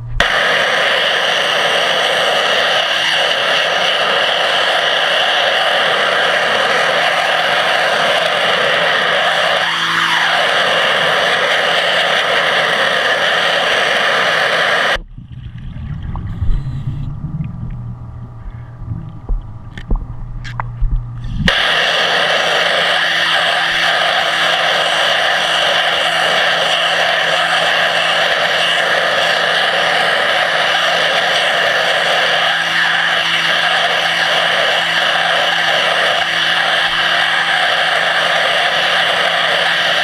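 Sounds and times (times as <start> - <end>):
low rumble with hum: 0.0 - 40.0
pressure-washer jet hissing underwater: 0.2 - 15.0, 15.6 - 17.4, 21.2 - 40.0.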